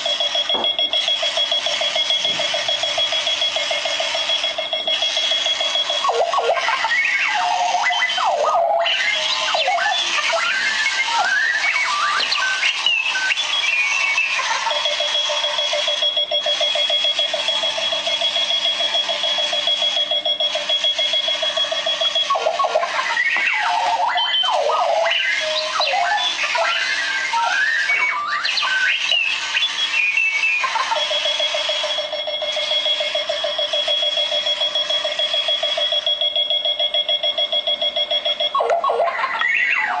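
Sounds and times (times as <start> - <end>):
alarm clock electronic chirps: 0.0 - 40.0
steady high alarm tone: 0.0 - 40.0.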